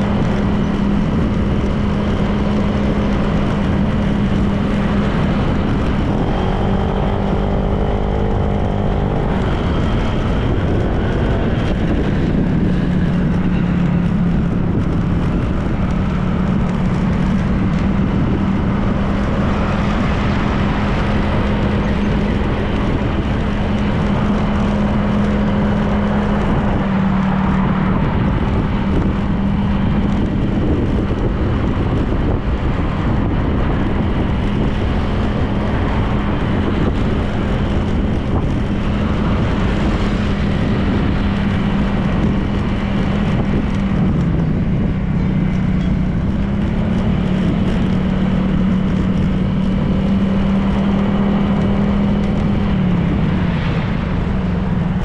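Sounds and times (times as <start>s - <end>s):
scooter engine running: 0.0s - 55.0s
wind and road noise: 0.0s - 55.0s.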